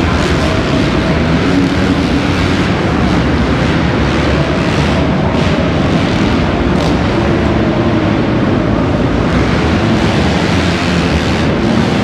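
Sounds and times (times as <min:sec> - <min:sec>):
motocross bikes racing: 0:00.0 - 0:12.0.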